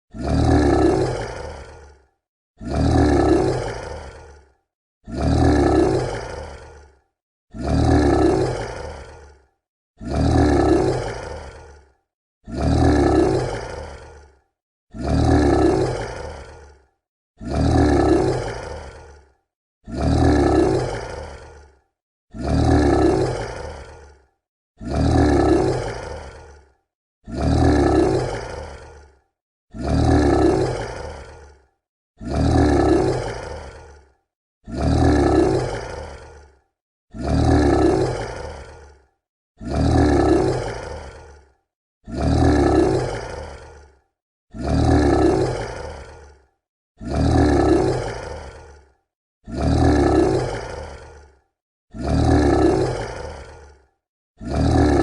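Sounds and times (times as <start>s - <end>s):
monster roar: 0.1s - 55.0s.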